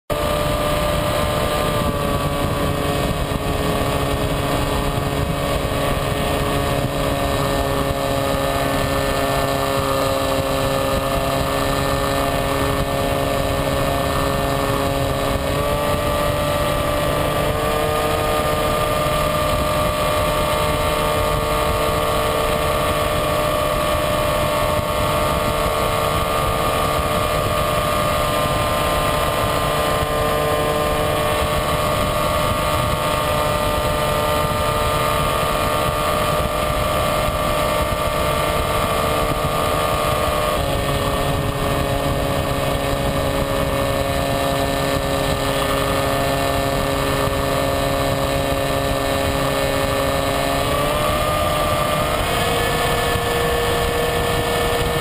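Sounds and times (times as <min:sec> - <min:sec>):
electric motor and propeller: 0:00.1 - 0:55.0
rush of air: 0:00.1 - 0:55.0.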